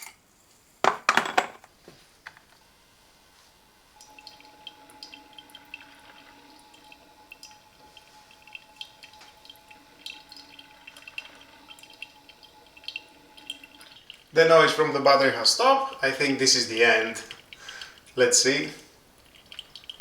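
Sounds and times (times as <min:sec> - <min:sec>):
steady electrical whine: 0:02.2 - 0:20.0
coffee dripping into cup: 0:04.0 - 0:20.0.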